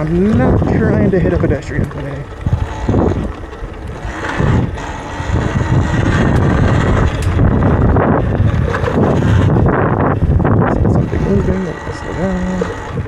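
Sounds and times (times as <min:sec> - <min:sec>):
electric dirt bike rumble: 0:00.0 - 0:13.0
wind buffeting microphone: 0:00.0 - 0:13.0.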